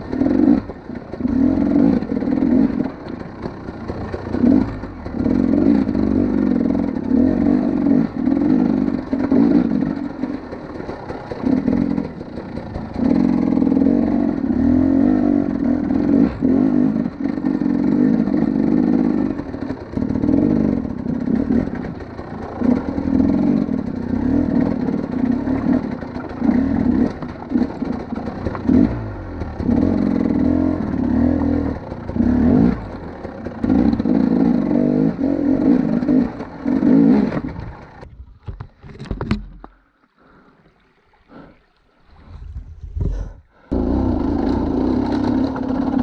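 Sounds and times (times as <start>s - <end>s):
dirt bike engine revving: 0.0s - 38.0s, 43.6s - 46.0s.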